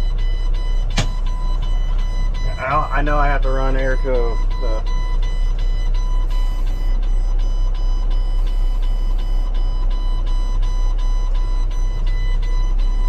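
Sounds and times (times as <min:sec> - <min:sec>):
heavy truck engine running: 0:00.0 - 0:13.0
truck backup alarm beeping: 0:00.0 - 0:13.0.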